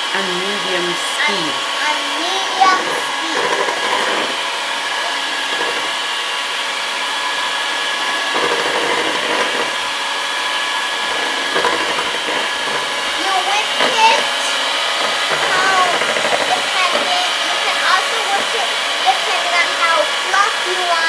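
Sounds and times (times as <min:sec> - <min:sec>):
electric hand mixer whining: 0:00.0 - 0:21.0.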